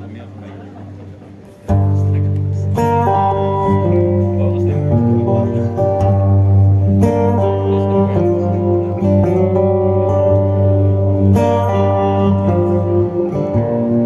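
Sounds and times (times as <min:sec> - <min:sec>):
live band guitars playing: 0:00.0 - 0:14.0
held bass: 0:00.8 - 0:14.0.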